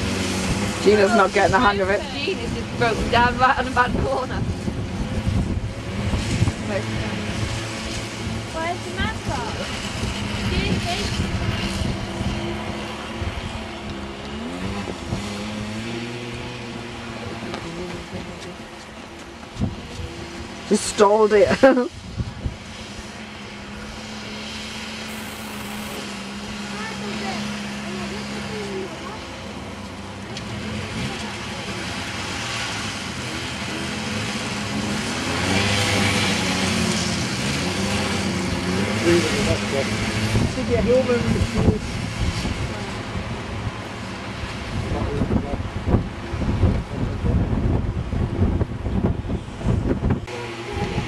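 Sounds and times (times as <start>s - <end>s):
snowmobile engines revving: 0.0s - 47.4s, 49.5s - 51.0s.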